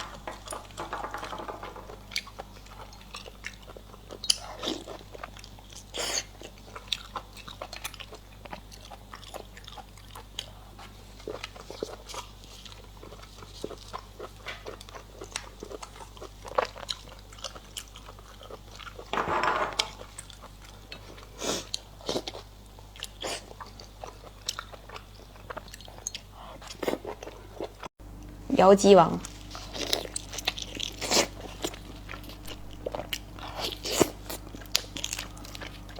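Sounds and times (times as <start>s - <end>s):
person chewing food: 0.0s - 19.1s, 19.8s - 28.4s, 29.2s - 35.9s.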